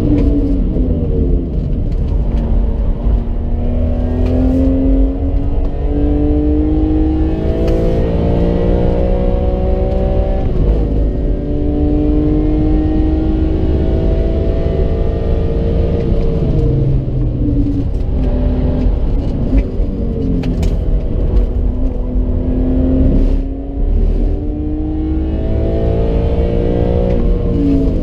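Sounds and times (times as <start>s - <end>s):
car engine revving through gears: 0.0s - 28.0s
road and wind noise: 0.0s - 28.0s.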